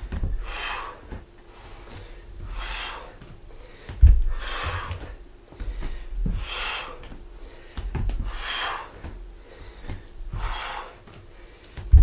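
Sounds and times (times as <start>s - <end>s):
bare feet thudding on wooden floor: 0.0s - 1.3s, 3.2s - 12.0s
man breathing hard: 0.0s - 12.0s.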